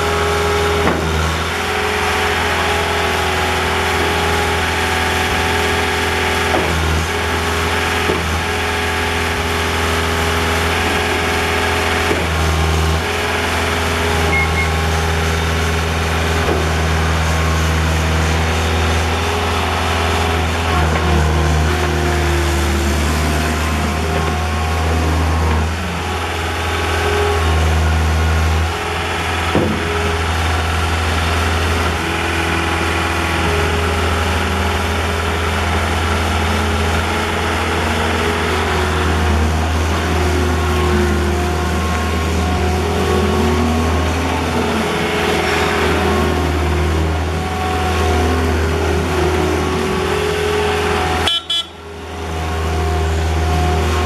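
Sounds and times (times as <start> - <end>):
loader diesel engine running: 0.0 - 54.0.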